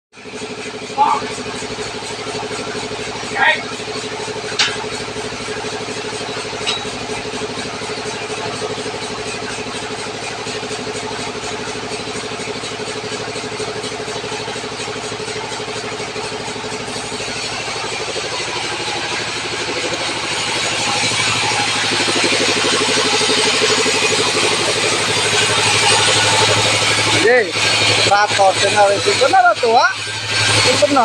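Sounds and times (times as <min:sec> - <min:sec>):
tractor engine running: 0:00.1 - 0:31.0.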